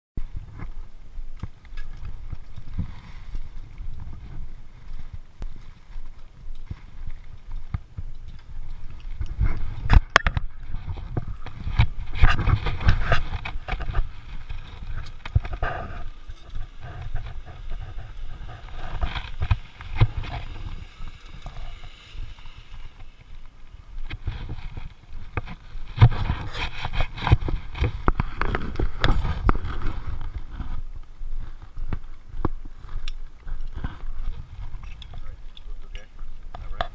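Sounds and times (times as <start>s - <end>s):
footsteps on dirt path: 0.2s - 36.9s.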